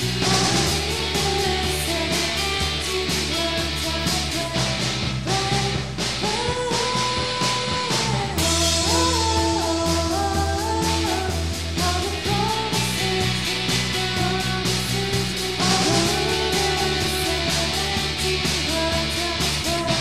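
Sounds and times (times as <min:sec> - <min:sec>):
person singing: 0:00.0 - 0:20.0
rock band playing: 0:00.0 - 0:20.0.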